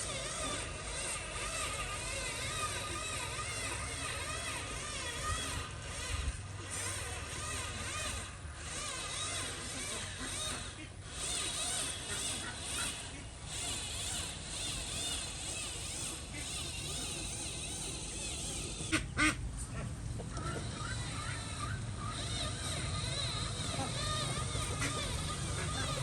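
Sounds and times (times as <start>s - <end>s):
small electric motors whining: 0.0s - 26.0s.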